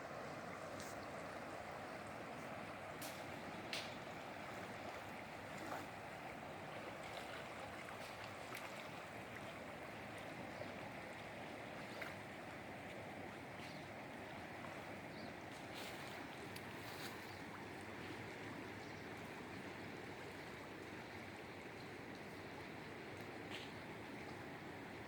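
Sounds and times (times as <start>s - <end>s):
river water running: 0.0s - 25.0s.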